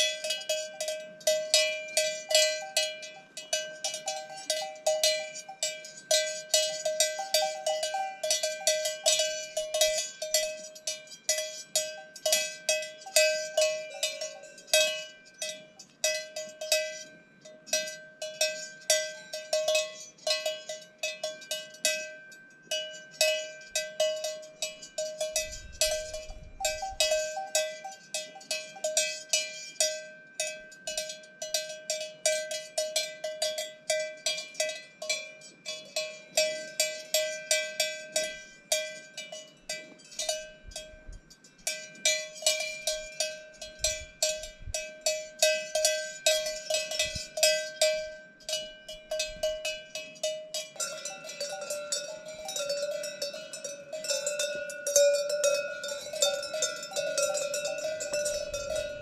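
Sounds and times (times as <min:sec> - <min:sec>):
cowbells clanking: 0:00.0 - 0:59.0.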